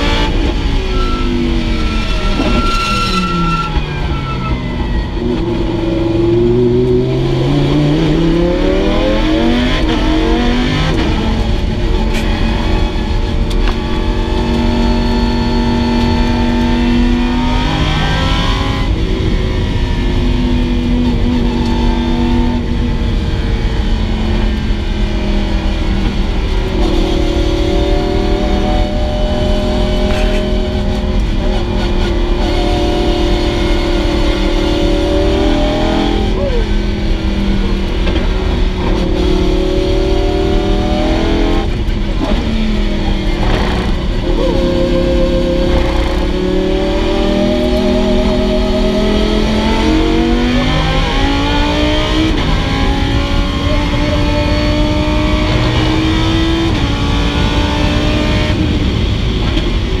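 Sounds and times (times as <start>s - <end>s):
car engine accelerating: 0.0s - 60.0s
road and wind noise: 0.0s - 60.0s.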